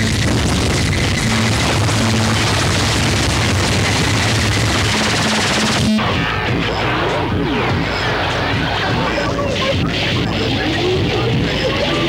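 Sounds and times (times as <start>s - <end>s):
distorted music and harsh noise: 0.0s - 12.0s.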